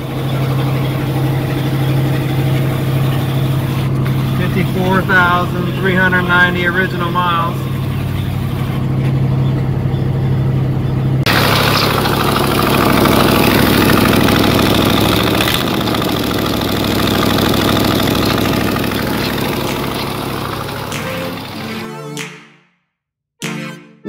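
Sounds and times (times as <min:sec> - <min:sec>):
exhaust leak clatter: 0:00.0 - 0:21.6
car engine idling: 0:00.0 - 0:21.9.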